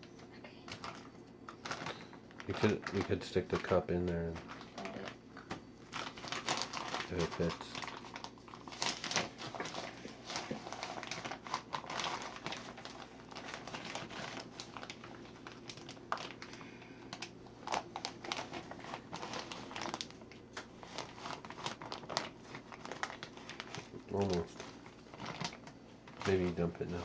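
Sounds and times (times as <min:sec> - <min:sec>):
sugar bag crinkling: 0:00.6 - 0:27.0.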